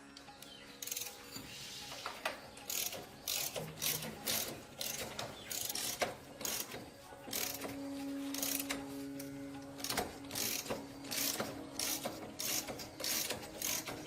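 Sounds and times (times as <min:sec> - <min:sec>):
ratchet wrench clicking: 0:00.4 - 0:01.3, 0:02.6 - 0:14.0.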